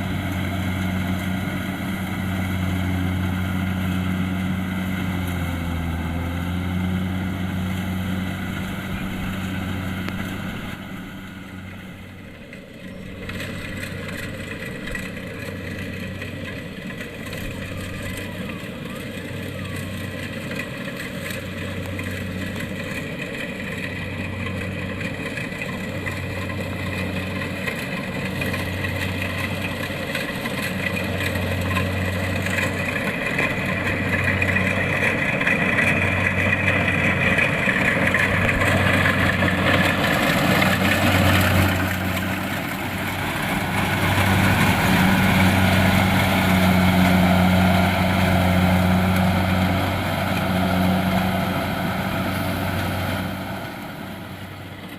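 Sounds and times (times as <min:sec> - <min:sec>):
combine harvester droning: 0:00.0 - 0:54.9.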